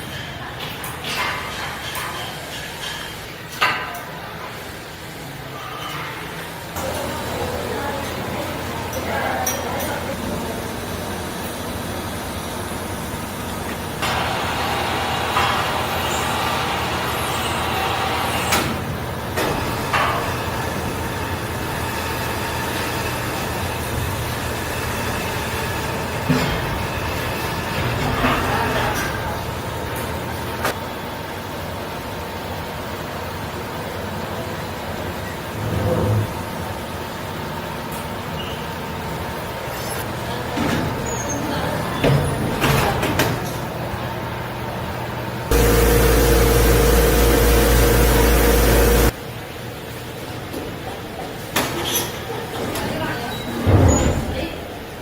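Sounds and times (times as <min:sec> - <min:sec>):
factory machinery hum and roar: 0:00.0 - 0:55.0.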